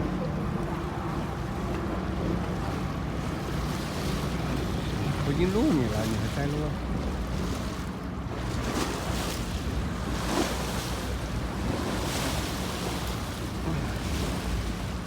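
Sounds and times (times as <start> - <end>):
water splashing along hull: 0.0 - 15.0.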